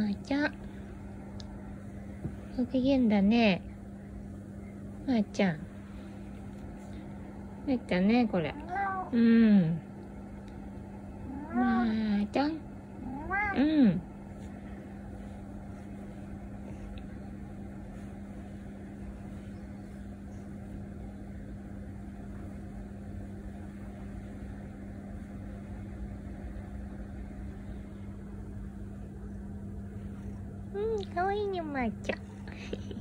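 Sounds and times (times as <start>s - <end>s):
faint low rumble: 0.0s - 33.0s
steady low hum: 0.0s - 33.0s.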